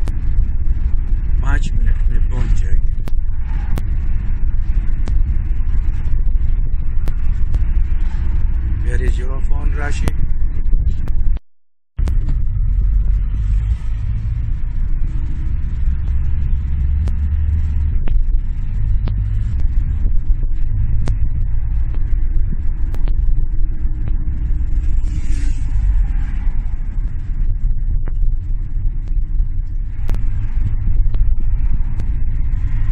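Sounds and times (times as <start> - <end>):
car engine and tyres rumbling: 0.0 - 11.4, 12.0 - 32.9.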